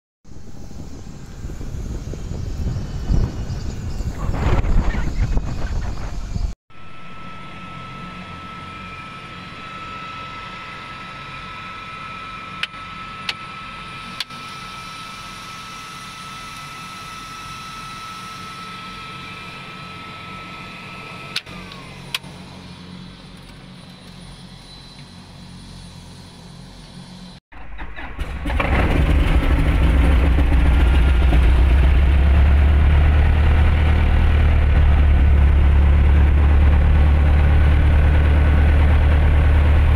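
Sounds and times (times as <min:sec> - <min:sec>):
steady high whine: 0:00.3 - 0:39.9
piston aircraft engine idling: 0:05.0 - 0:39.9.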